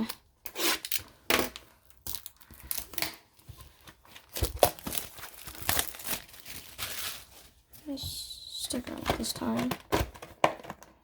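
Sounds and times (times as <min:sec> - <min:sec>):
plastic wrap crinkling: 0:00.9 - 0:11.0.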